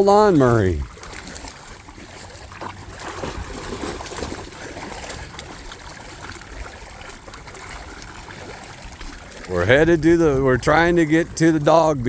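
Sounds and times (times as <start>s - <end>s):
dogs wading through seawater: 0.0s - 12.0s.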